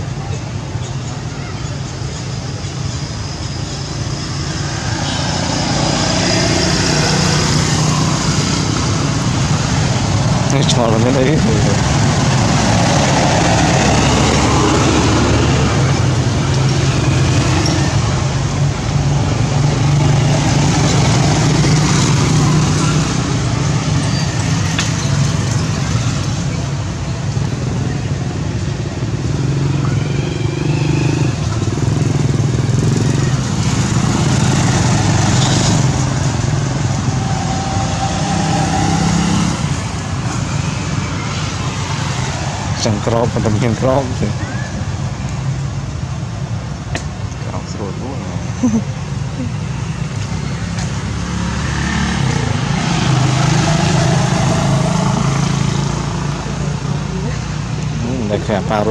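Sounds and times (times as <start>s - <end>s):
vehicle engine humming: 0.0s - 58.9s.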